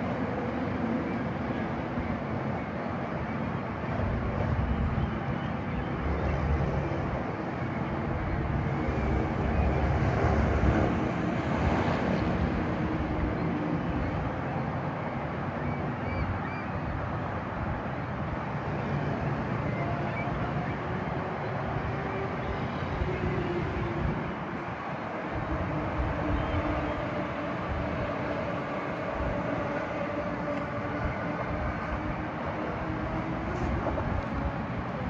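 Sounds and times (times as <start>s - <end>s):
ship diesel engine droning: 0.0s - 35.0s
wind: 0.0s - 35.0s.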